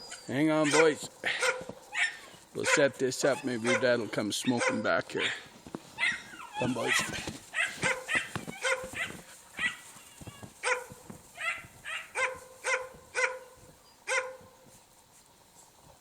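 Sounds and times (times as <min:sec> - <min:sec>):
dog barking: 0:00.6 - 0:10.0, 0:10.6 - 0:14.5.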